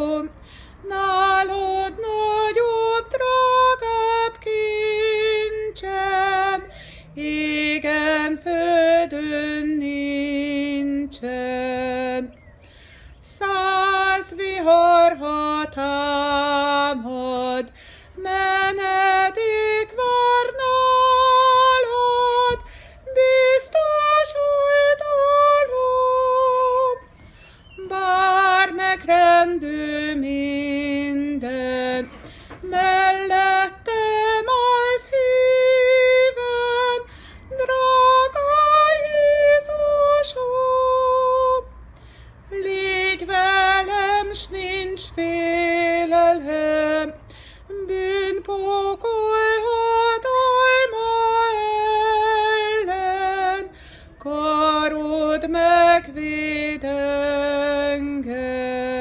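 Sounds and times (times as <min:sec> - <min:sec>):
woman singing a hymn solo: 0:00.0 - 0:12.5, 0:13.1 - 0:59.0.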